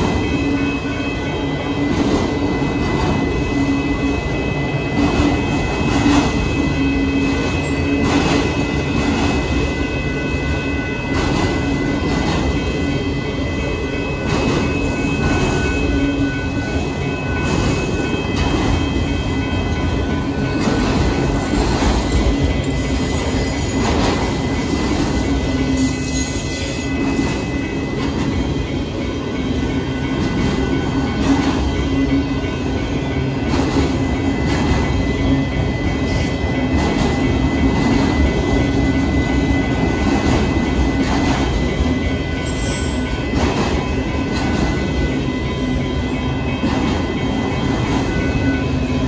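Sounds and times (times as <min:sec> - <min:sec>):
freight train rumble and rattle: 0:00.0 - 0:49.0.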